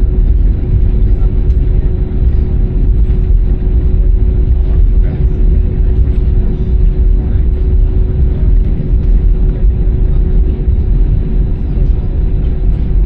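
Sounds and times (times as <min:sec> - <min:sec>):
airliner cabin engine rumble: 0:00.0 - 0:13.0
constant hum: 0:00.0 - 0:13.0.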